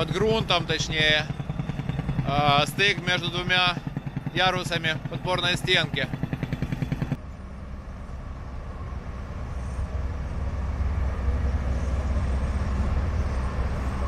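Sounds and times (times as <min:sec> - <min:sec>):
diesel machinery engine: 0:00.0 - 0:14.0.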